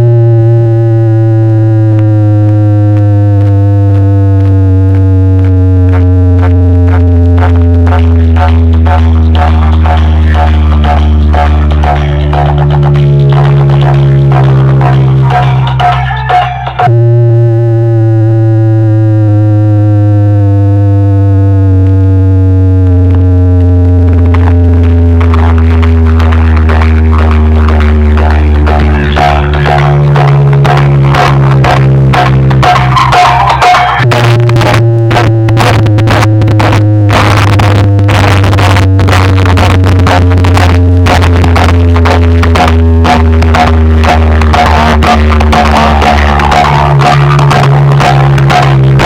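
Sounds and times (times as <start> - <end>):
distorted electronic music: 0.0 - 49.0
faint beats: 0.0 - 49.0
synthesizer bass tone sliding down: 0.0 - 49.0.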